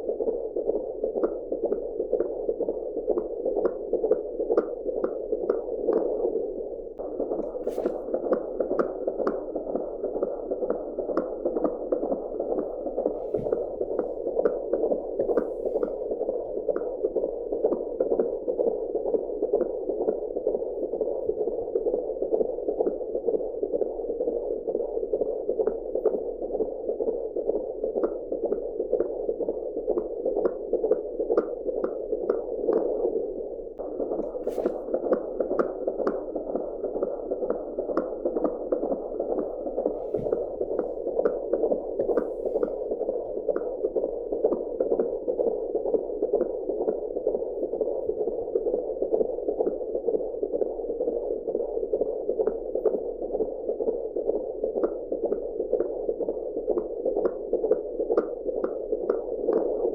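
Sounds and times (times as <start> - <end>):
fetal heartbeat pulse: 0.0 - 59.9.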